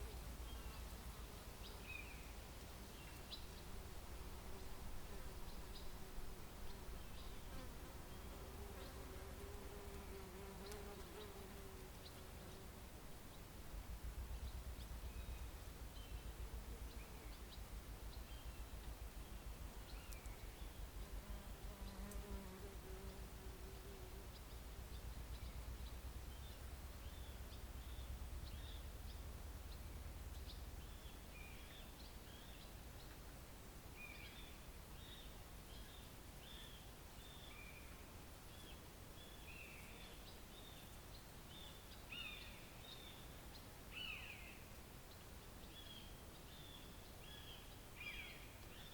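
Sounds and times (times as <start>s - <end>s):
songbird chirps: 0.0s - 48.9s.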